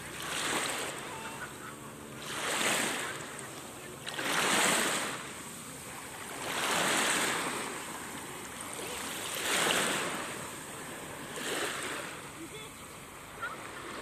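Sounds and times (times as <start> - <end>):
small waves lapping on beach: 0.0 - 14.0.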